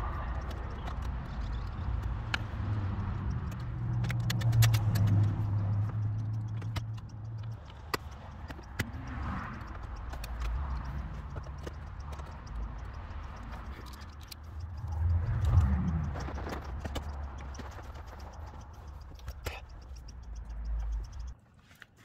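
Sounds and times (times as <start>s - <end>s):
steady low hum: 0.0s - 21.4s.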